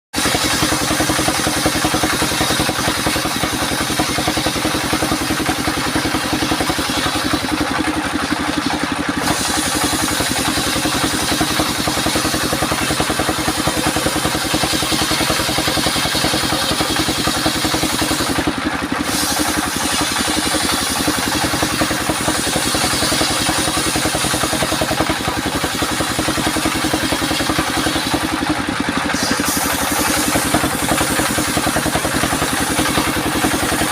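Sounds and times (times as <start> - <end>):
sawmill machine droning: 0.1 - 33.9.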